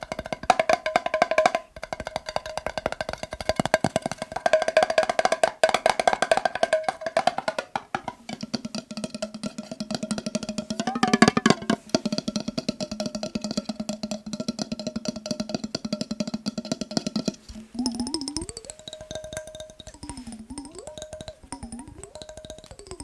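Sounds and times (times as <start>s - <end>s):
fast tapping on glass jar: 0.0s - 23.0s.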